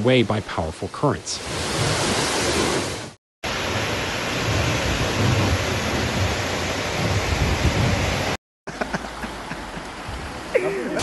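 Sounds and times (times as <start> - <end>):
torrential rain: 0.0 - 11.0
floodwater rushing: 0.6 - 11.0.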